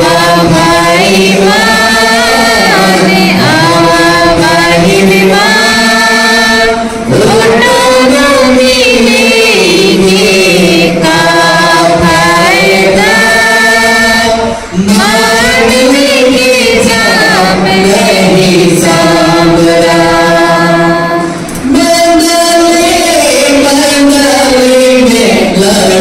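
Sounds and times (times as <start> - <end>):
man singing a hymn through a pa: 0.0 - 26.0.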